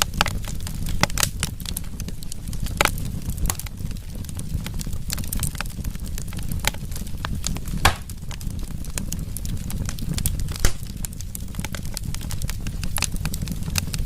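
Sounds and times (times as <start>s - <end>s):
burning wood popping: 0.0s - 14.0s
wood fire crackling: 0.0s - 14.0s.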